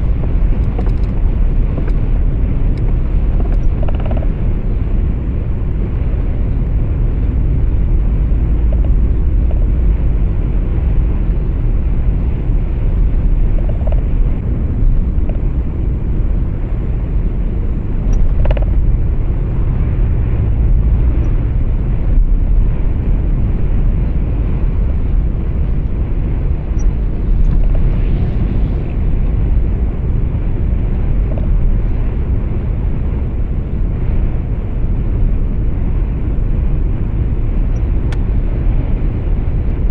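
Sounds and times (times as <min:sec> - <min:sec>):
truck engine rumble: 0:00.0 - 0:39.9
tyre road noise: 0:00.0 - 0:39.9.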